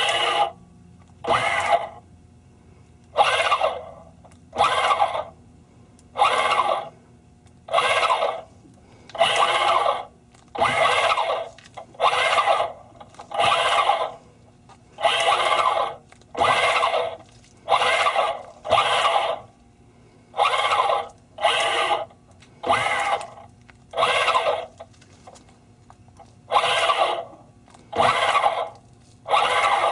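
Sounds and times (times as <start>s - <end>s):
electric motor whirring: 0.0s - 0.6s, 1.2s - 2.0s, 3.0s - 5.4s, 6.1s - 7.0s, 7.6s - 8.5s, 9.1s - 14.3s, 14.9s - 19.6s, 20.3s - 25.4s, 26.1s - 29.9s.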